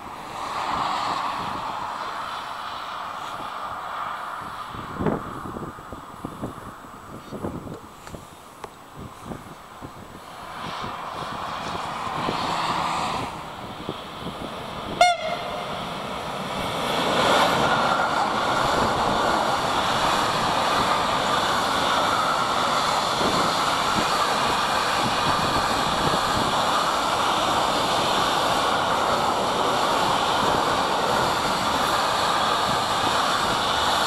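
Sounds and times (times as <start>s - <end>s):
train wheels rushing on rails: 0.0s - 34.0s.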